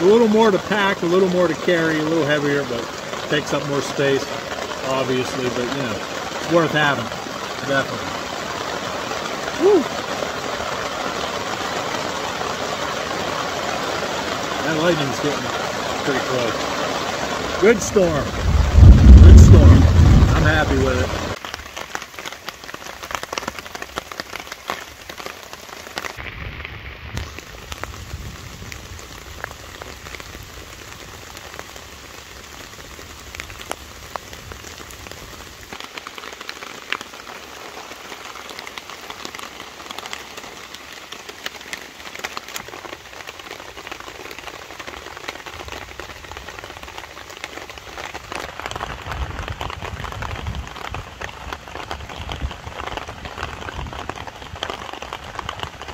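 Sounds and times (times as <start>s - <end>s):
heavy rain on a tarp: 0.0s - 55.9s.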